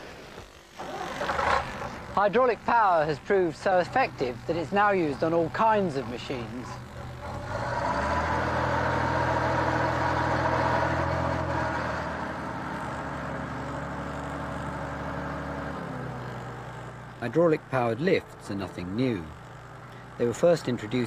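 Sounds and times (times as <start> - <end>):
crane engine and pump running: 0.0 - 21.0.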